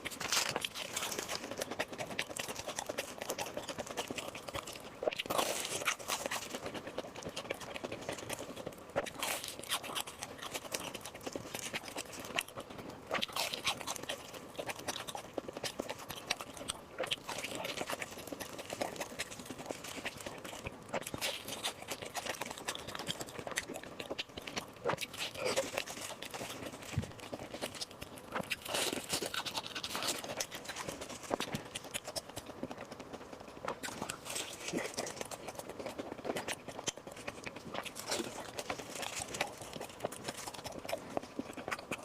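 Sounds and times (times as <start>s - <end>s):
person chewing food: 0.0s - 42.0s.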